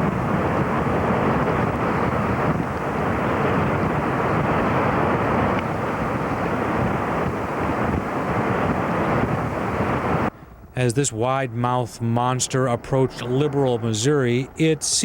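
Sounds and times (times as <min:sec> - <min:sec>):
wind rushing: 0:00.0 - 0:15.0.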